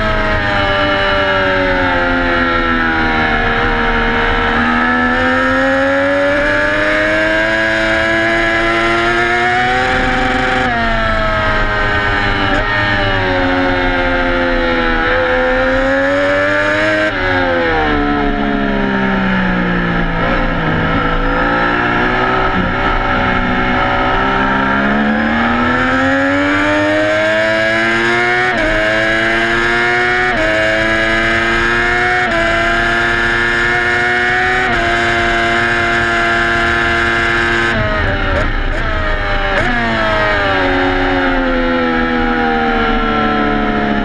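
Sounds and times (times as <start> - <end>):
sport motorcycle engine: 0.0 - 44.0.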